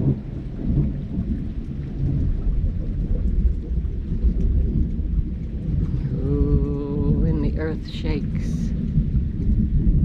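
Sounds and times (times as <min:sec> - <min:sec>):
heavy rain: 0:00.0 - 0:10.0
raindrop ticks: 0:00.0 - 0:10.0
thunder rumbling: 0:00.0 - 0:10.0.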